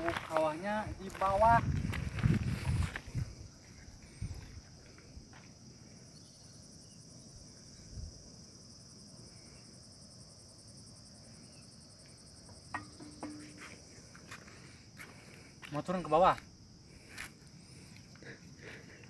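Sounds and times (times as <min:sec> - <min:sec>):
insects droning: 0:00.0 - 0:19.0
insect pulsing trill: 0:02.8 - 0:19.0.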